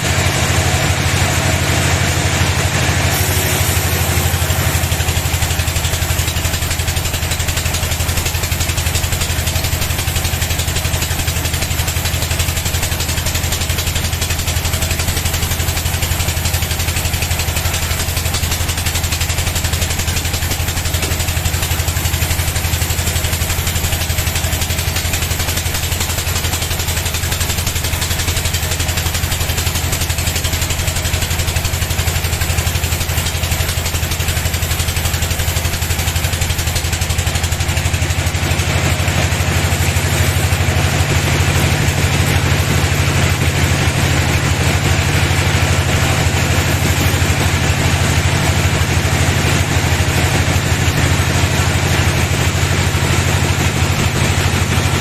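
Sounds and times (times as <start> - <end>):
band saw machine running: 0.0 - 55.0.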